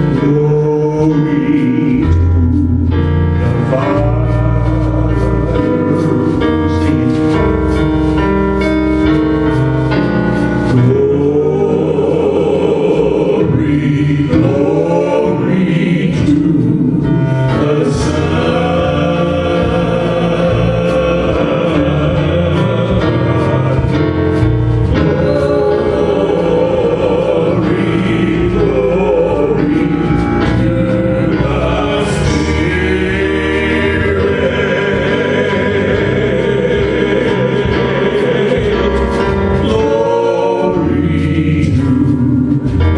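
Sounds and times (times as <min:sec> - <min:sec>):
group of voices singing: 0:00.0 - 0:42.9
instrumental backing with beat: 0:00.0 - 0:42.9.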